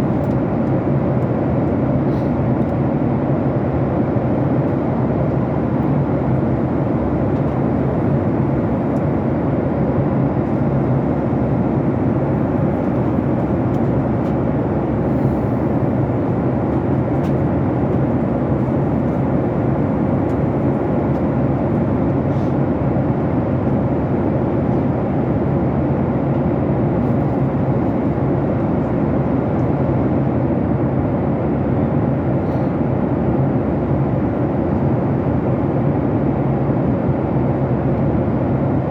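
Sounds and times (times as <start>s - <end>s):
jet airliner cabin noise: 0.0s - 38.9s.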